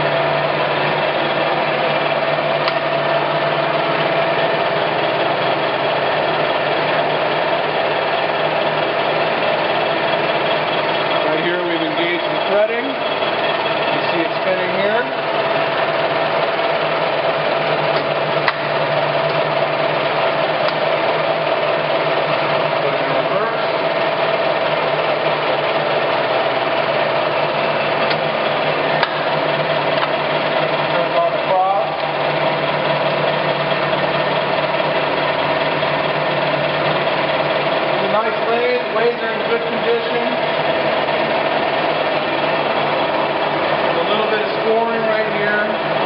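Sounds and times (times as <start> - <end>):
lathe whine and hum: 0.0 - 46.0.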